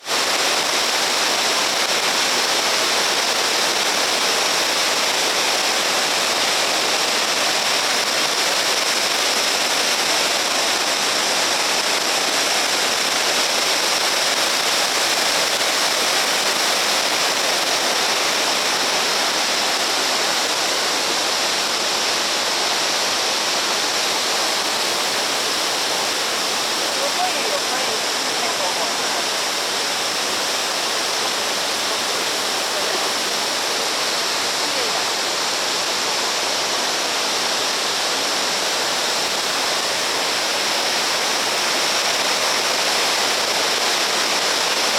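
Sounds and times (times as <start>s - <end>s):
waterfall rushing over rock: 0.0s - 44.9s.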